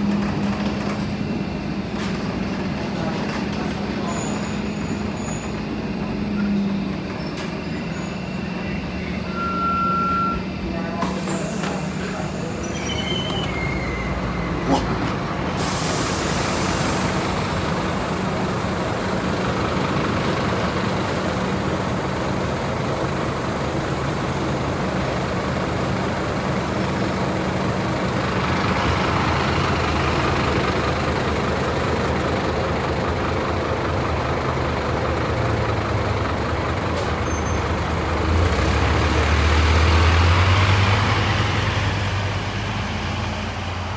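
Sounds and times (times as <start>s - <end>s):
bus diesel engine running: 0.0s - 43.9s.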